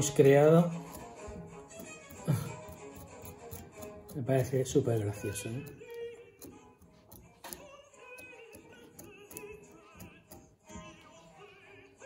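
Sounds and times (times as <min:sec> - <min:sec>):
operatic singing: 0:00.7 - 0:12.0.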